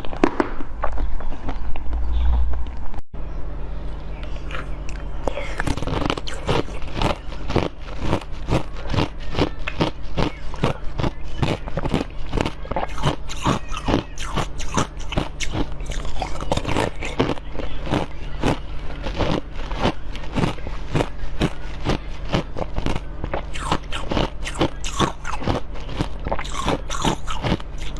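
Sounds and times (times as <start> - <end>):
steady low hum: 0.0 - 27.9
person chewing crunchy food: 4.4 - 27.9.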